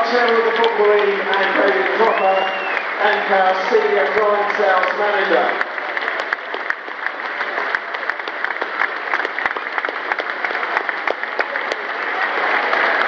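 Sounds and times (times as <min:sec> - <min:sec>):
sharp hand claps nearby: 0:00.0 - 0:13.0
stadium crowd applauding: 0:00.0 - 0:13.0.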